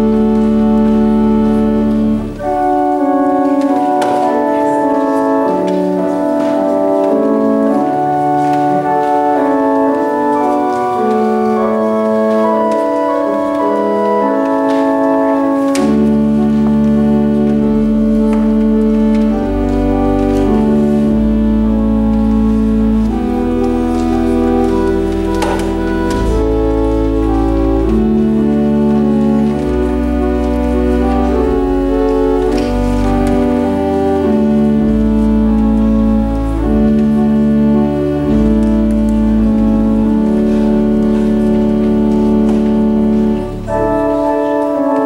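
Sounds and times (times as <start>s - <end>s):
church organ playing slow music: 0.0s - 45.0s
deep bass organ notes: 0.0s - 45.0s.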